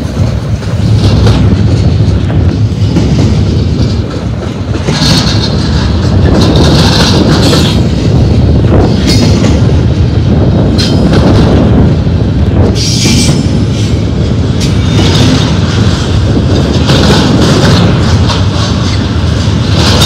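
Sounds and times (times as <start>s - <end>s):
steel wheels rumbling on rail: 0.0s - 20.0s.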